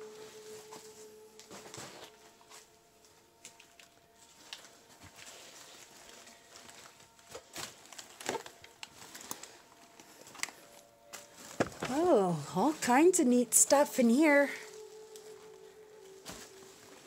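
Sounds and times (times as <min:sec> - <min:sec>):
footsteps shuffling over debris: 0:00.0 - 0:17.0.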